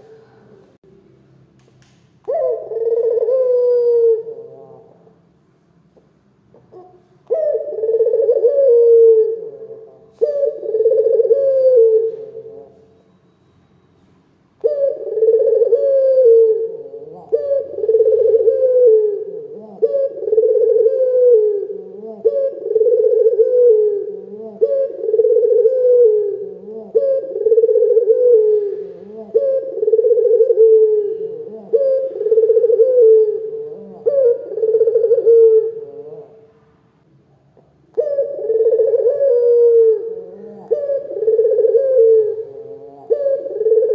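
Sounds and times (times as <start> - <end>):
dove cooing: 2.2 - 5.2, 6.6 - 12.9, 14.6 - 36.5, 37.9 - 43.9.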